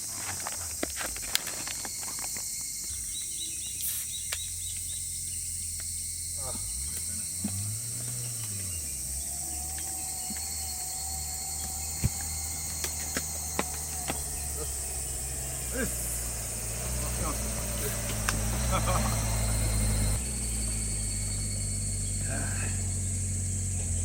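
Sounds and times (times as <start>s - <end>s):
crickets and insects chirring: 0.0s - 24.0s
low hum: 1.2s - 24.0s.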